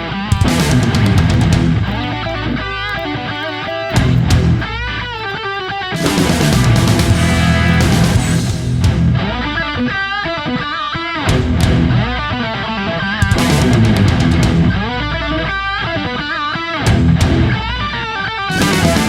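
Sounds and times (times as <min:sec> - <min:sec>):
heavy rock music with electric guitar: 0:00.0 - 0:19.0.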